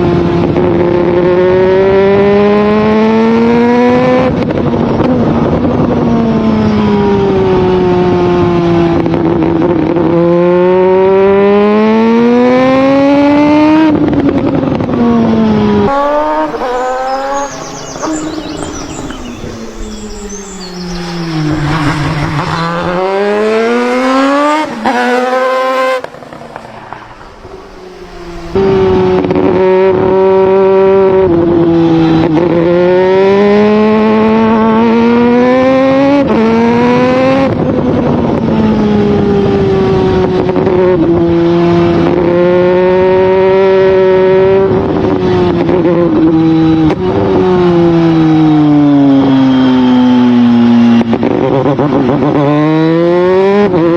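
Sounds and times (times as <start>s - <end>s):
motorcycle engine revving: 0.3s - 53.9s.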